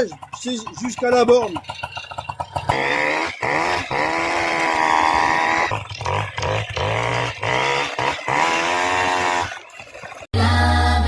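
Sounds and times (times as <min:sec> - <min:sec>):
moped engine revving: 0:00.0 - 0:10.3.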